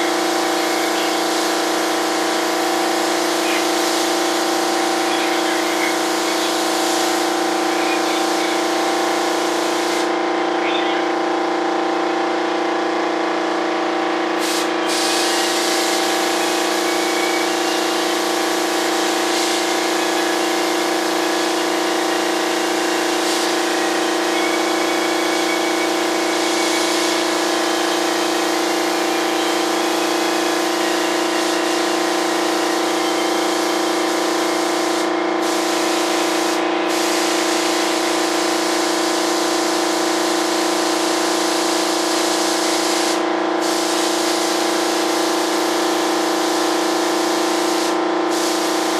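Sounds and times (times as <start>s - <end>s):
spray gun hissing: 0.0s - 10.6s, 14.4s - 48.9s
air compressor humming: 0.0s - 48.9s.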